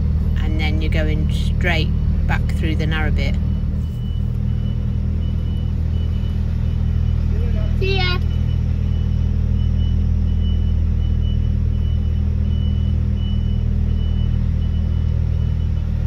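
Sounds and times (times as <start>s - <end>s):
diesel engine running: 0.0s - 16.0s
reversing alarm beeps: 1.4s - 16.0s.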